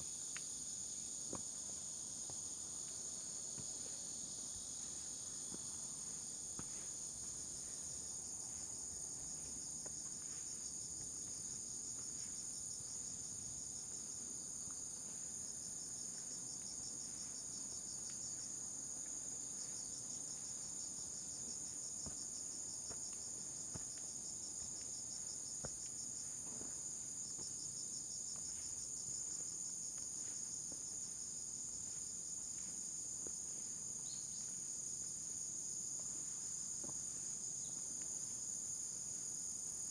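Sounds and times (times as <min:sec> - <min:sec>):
high-pitched insect chorus: 0:00.0 - 0:39.9
faint footsteps on trail: 0:01.2 - 0:39.5.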